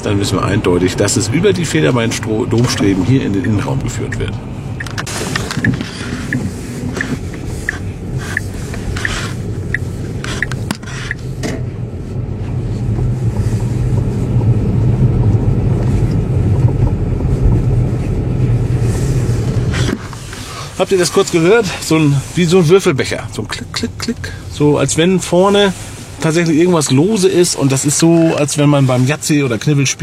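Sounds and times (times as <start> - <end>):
tyre and road rumble: 0.0 - 30.0.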